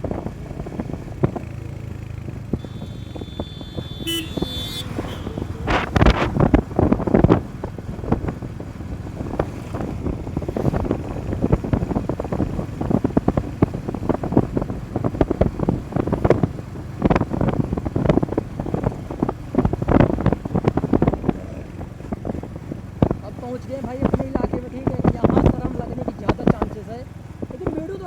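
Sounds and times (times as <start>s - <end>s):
road and vehicle noise: 0.0s - 28.0s
wind buffeting microphone: 0.0s - 28.0s.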